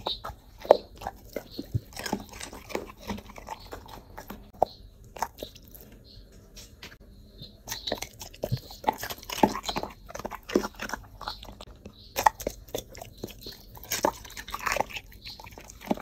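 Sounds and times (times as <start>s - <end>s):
dog chewing and crunching food: 0.0s - 16.0s.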